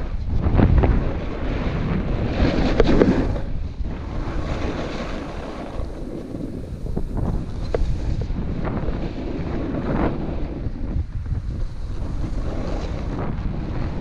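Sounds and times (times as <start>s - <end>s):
snowboard edge scraping snow: 0.0s - 14.0s
wind rushing over microphone: 0.0s - 14.0s.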